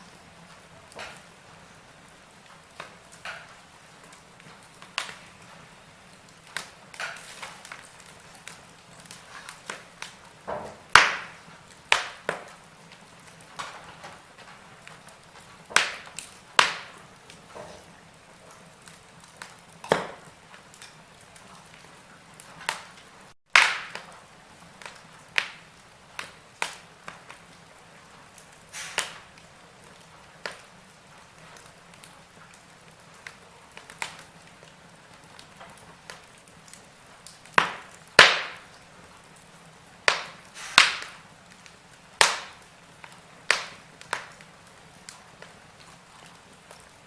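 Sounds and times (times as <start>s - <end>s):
loud fire cracks: 0.0s - 47.0s
wood fire crackling: 0.0s - 47.0s.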